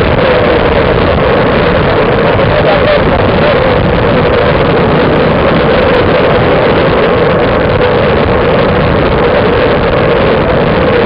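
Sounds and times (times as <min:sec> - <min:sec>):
wind rushing across microphone: 0:00.0 - 0:11.0.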